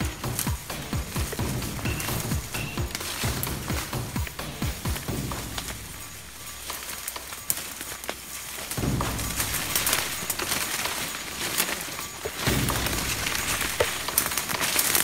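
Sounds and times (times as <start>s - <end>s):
leaves rustling and crackling: 0.0s - 15.0s
twigs snapping: 0.0s - 15.0s.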